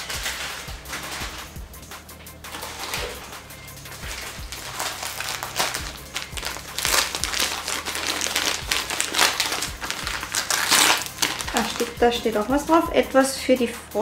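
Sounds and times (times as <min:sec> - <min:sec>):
plastic packaging crinkling: 0:00.0 - 0:01.6, 0:02.5 - 0:12.5.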